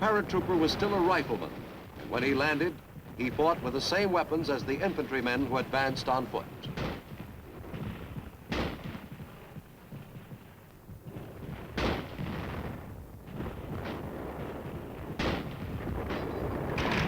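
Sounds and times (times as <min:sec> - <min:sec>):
echoing gunshots: 0:00.0 - 0:10.2, 0:11.2 - 0:17.0
low rumble of battle noise: 0:00.0 - 0:17.0.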